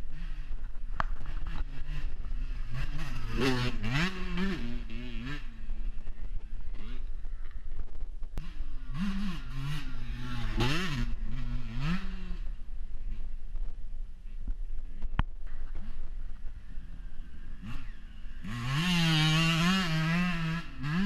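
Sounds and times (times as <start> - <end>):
dirt bike engine revving: 0.0 - 7.6, 8.4 - 13.4, 15.5 - 21.0
wind rumble on microphone: 0.0 - 20.8.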